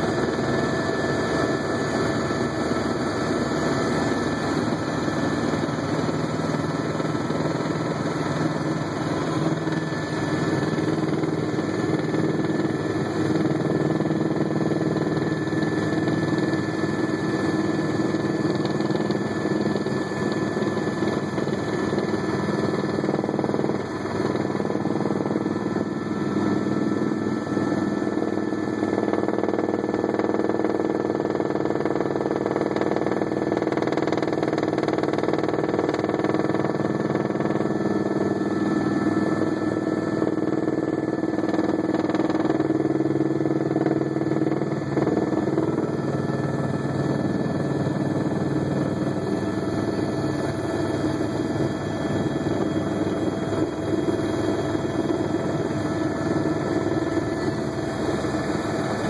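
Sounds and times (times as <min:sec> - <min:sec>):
helicopter cabin drone: 0:00.0 - 0:59.0.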